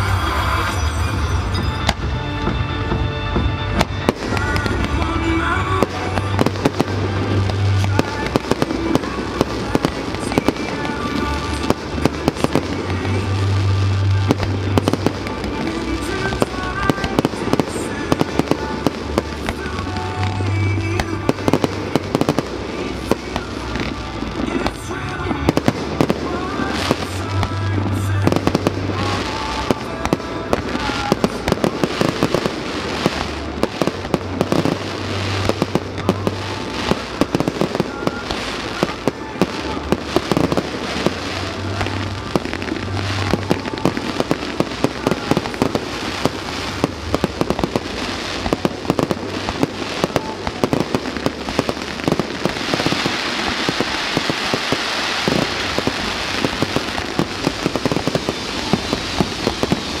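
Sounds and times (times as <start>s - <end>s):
fireworks bangs and crackles: 0.0s - 60.0s
ground fountains crackling hiss: 3.6s - 60.0s.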